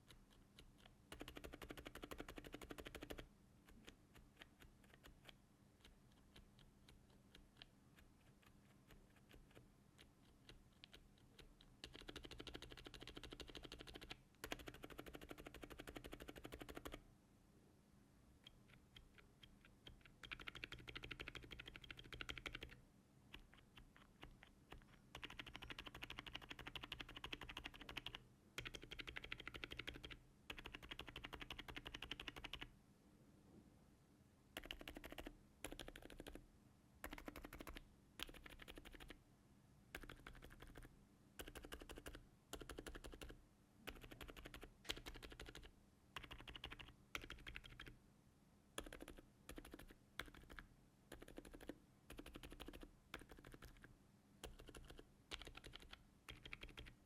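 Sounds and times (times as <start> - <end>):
muted mechanical keyboard typing: 0.0 - 17.0, 18.4 - 32.7, 34.6 - 36.4, 37.0 - 39.2, 40.0 - 48.0, 48.8 - 57.0.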